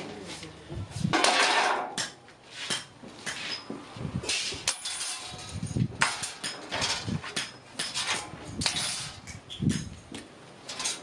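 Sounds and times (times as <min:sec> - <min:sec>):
clatter of knocks and scraping: 0:01.1 - 0:11.0.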